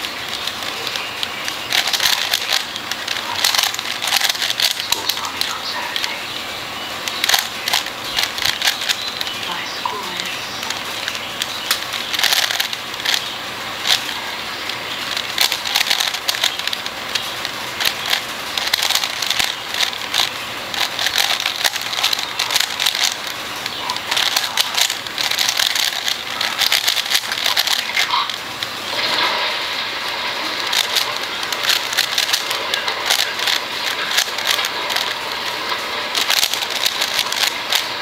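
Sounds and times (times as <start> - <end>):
puzzle cube plastic clicking: 0.0 - 6.4, 7.0 - 38.0
steady hiss: 0.0 - 38.0.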